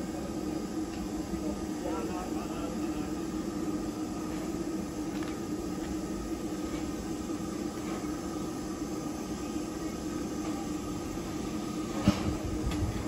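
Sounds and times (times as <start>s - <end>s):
steam train hissing and humming: 0.0s - 13.0s.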